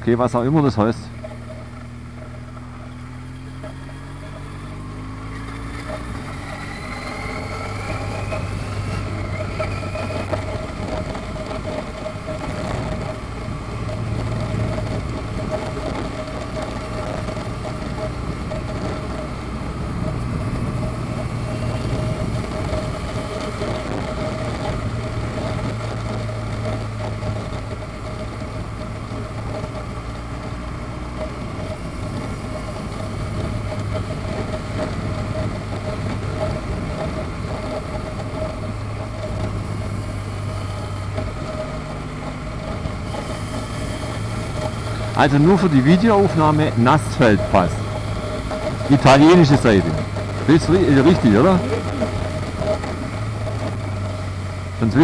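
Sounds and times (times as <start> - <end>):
road and wind noise: 0.0 - 55.0
vehicle engine: 0.0 - 55.0.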